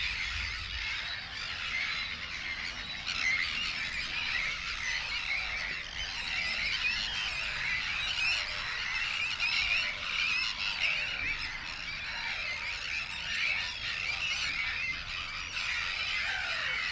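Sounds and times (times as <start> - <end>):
many birds squawking and chattering: 0.0 - 16.9.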